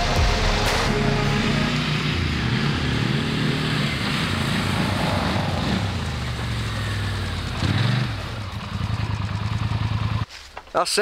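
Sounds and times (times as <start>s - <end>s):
quad bike engines: 0.7s - 10.3s.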